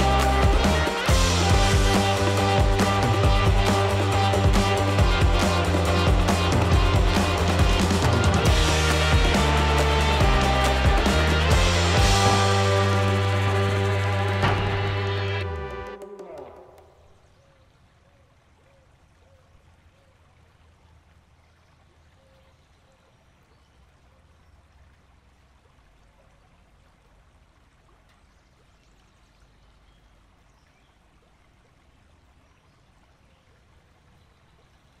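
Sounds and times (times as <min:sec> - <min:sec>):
creek water flowing: 0:00.0 - 0:35.0.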